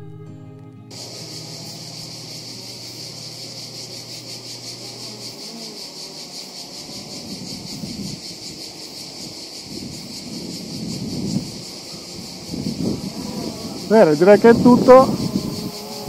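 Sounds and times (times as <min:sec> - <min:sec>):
insects chirring: 0:00.9 - 0:16.0.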